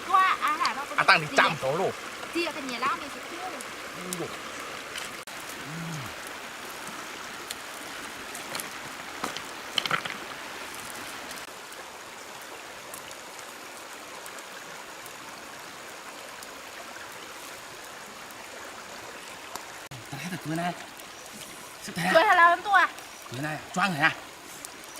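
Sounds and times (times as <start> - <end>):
stream running over stones: 0.0 - 24.9.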